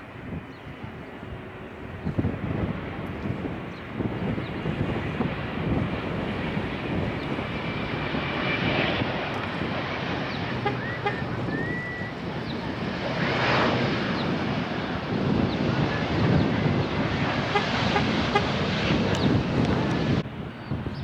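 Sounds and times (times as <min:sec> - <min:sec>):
wind buffeting microphone: 0:00.0 - 0:21.0
jet engine rushing: 0:00.1 - 0:21.0.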